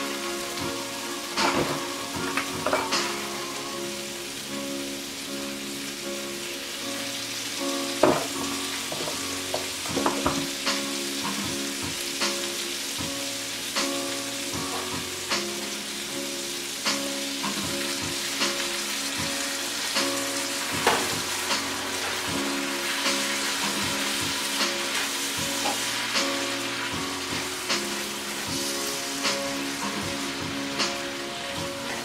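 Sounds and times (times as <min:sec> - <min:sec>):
food sizzling in a pan: 0:00.0 - 0:32.0
soft background music: 0:00.0 - 0:32.0.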